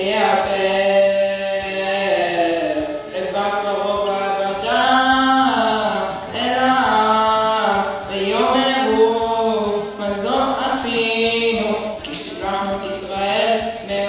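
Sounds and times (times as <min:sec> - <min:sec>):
person chanting unaccompanied: 0:00.0 - 0:14.0.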